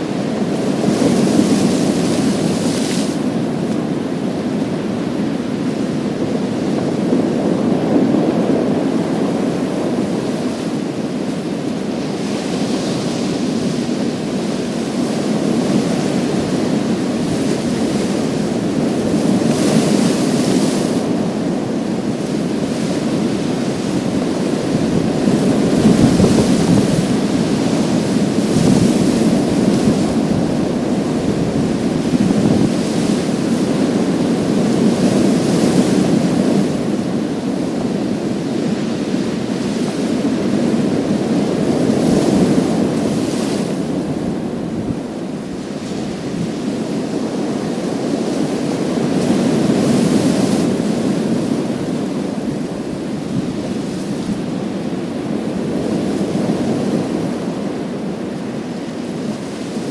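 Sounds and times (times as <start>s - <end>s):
waves washing over pebbles: 0.0s - 59.9s.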